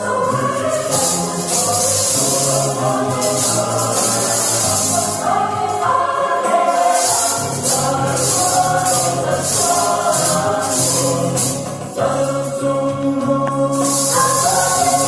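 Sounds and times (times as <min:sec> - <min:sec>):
gospel choir music: 0:00.0 - 0:15.0
tambourines jingling: 0:00.2 - 0:05.4, 0:06.6 - 0:12.6, 0:13.7 - 0:15.0.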